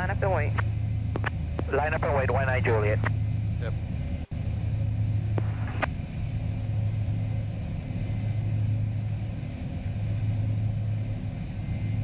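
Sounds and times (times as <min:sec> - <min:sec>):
aircraft cockpit low drone: 0:00.0 - 0:12.0.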